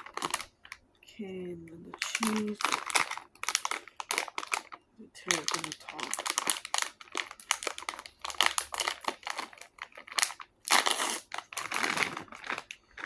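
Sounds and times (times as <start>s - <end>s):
plastic bag crinkling: 0.0s - 0.8s, 1.8s - 13.0s.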